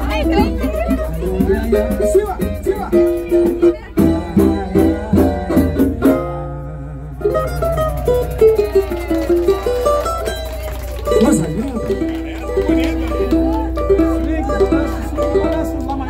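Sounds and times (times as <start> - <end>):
samba music on plucked strings: 0.0 - 16.0.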